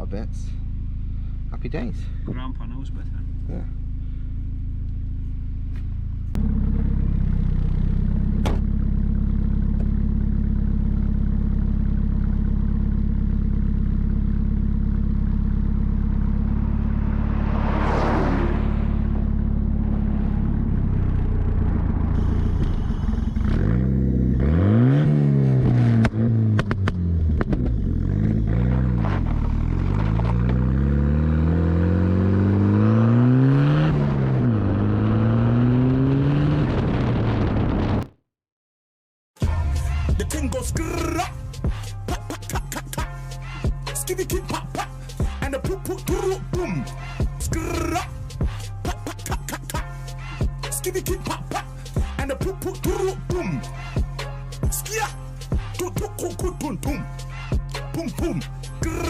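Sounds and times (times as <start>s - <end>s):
engine idling and revving: 0.0s - 38.1s, 39.4s - 59.0s.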